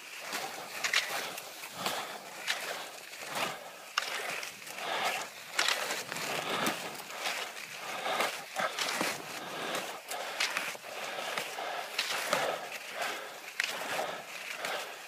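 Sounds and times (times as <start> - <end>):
skis swishing on snow: 0.0 - 15.0.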